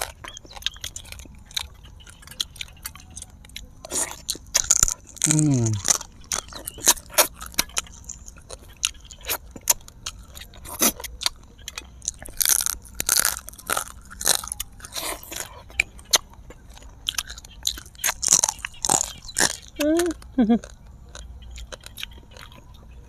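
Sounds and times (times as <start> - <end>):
mouth clicks and smacks: 0.0 - 22.9
people chewing and crunching fish: 0.0 - 23.0.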